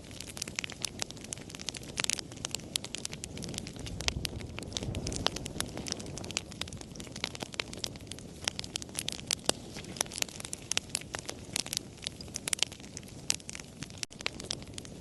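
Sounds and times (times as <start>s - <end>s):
campfire crackling and popping: 0.0s - 15.0s
soft rush of flames: 0.0s - 15.0s.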